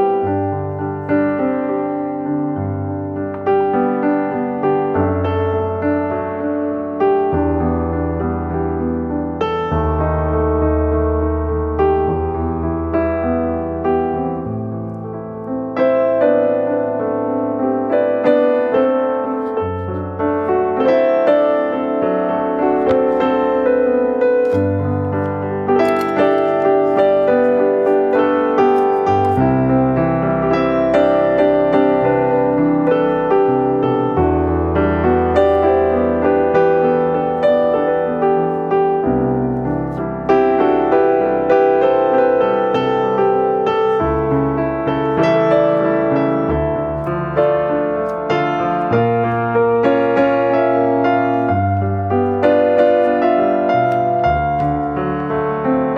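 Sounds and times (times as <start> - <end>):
electric piano melody: 0.0 - 55.9.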